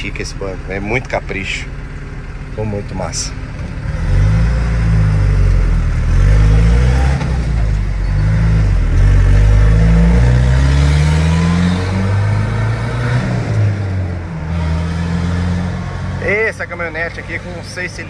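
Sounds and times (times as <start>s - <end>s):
pickup engine accelerating: 0.0s - 18.0s.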